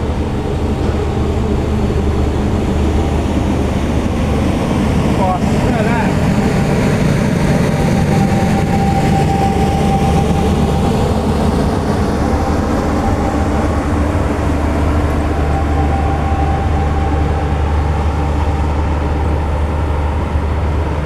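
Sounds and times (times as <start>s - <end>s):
steady hum: 0.0s - 21.0s
train rumbling: 0.0s - 21.0s.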